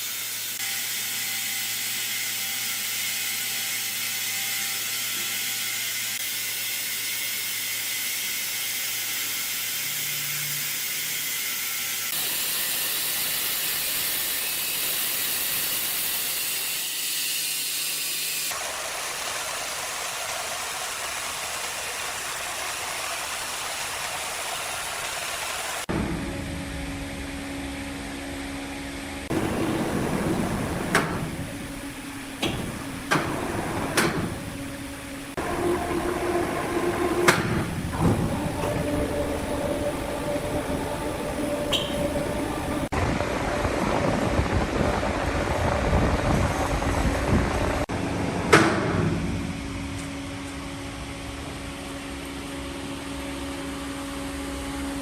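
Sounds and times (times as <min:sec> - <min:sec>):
woodworking machinery running: 0:00.0 - 0:55.0.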